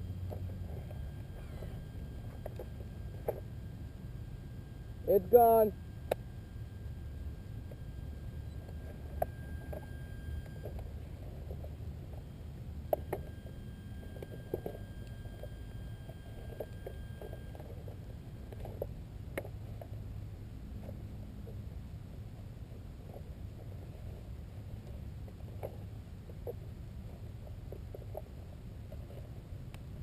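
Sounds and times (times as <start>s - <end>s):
faint clicks and rustles: 0.0s - 30.0s.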